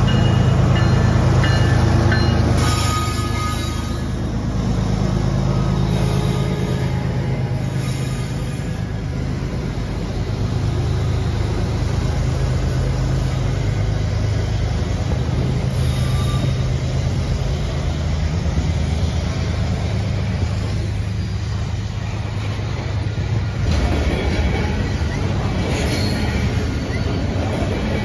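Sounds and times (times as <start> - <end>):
diesel locomotive engine rumbling: 0.0 - 28.0
train wheels on track: 0.0 - 28.0.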